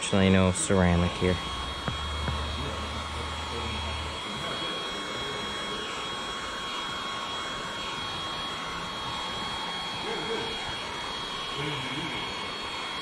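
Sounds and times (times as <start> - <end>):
heat gun blowing with whine: 0.0 - 13.0
low hum: 0.0 - 13.0.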